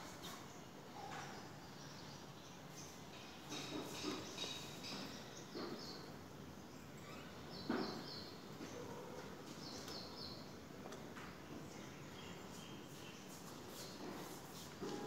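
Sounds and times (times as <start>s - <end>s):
faint outdoor background noise: 0.0s - 15.0s
birds chirping: 0.2s - 14.3s.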